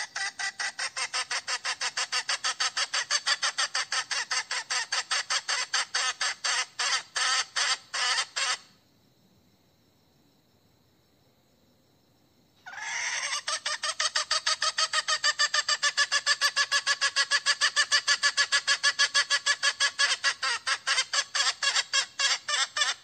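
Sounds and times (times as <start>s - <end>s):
hen calling in rapid sharp notes: 0.0s - 8.6s, 12.7s - 23.0s.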